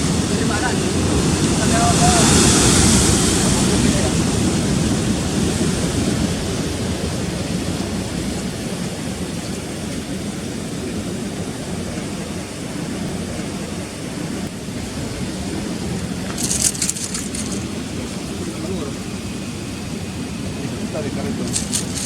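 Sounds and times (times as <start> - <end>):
sea surf: 0.0 - 22.0.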